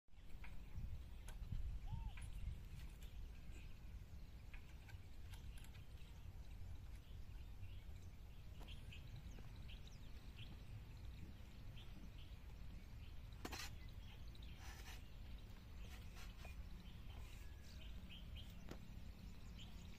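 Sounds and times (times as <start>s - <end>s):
bird chirps: 0.2s - 19.9s.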